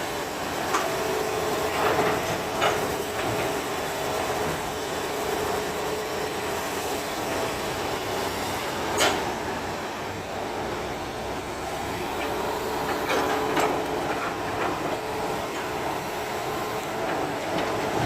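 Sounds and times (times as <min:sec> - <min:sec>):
excavator running: 0:00.0 - 0:18.0.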